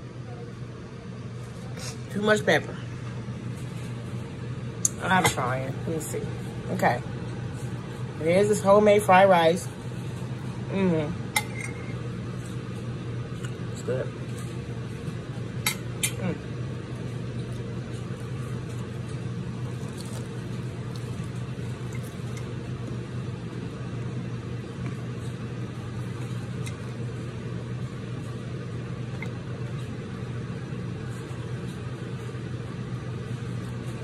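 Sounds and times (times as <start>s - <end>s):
blower fan humming: 0.0s - 34.0s.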